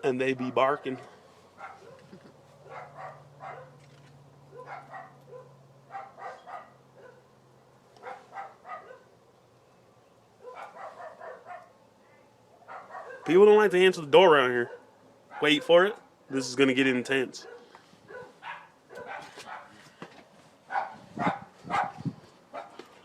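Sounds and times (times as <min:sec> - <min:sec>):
faint dogs barking: 0:00.1 - 0:03.8, 0:04.4 - 0:07.4, 0:08.0 - 0:09.3, 0:10.3 - 0:13.5, 0:14.3 - 0:16.2, 0:17.4 - 0:23.0.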